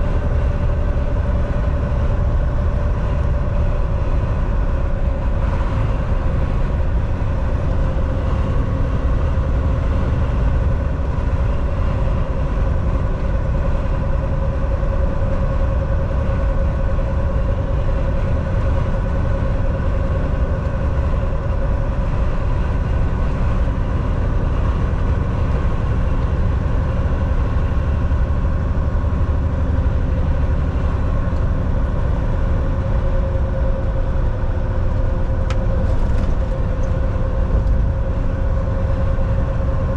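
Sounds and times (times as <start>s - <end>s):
road noise: 0.0s - 39.9s
steady hum: 0.0s - 39.9s
truck engine drone: 0.0s - 39.9s.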